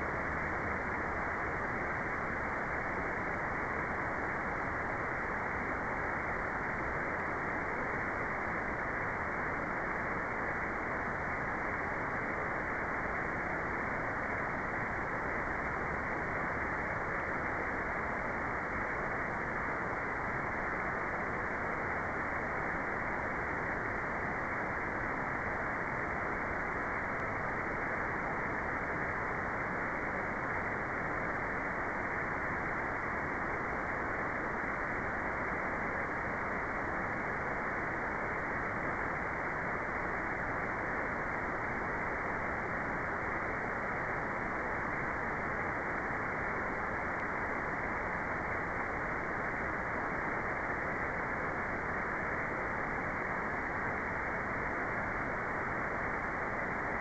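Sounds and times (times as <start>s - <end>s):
muffled white noise hiss: 0.0s - 57.0s.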